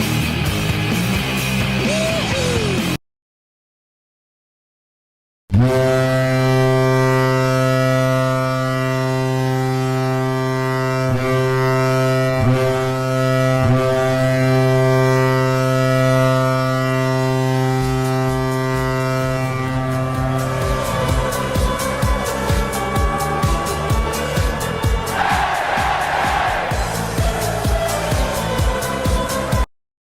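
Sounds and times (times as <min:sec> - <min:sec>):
deep air horn blast: 0:05.5 - 0:29.7.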